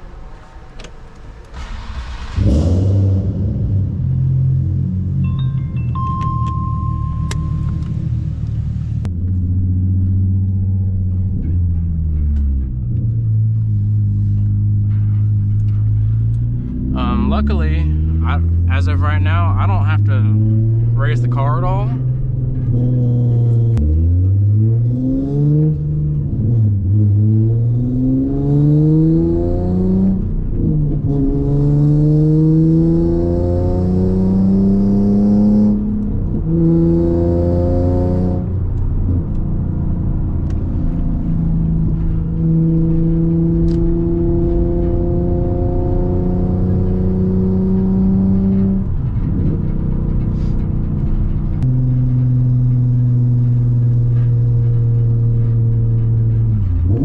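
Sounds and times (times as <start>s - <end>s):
car engine revving through gears: 1.4s - 5.4s, 6.6s - 57.0s.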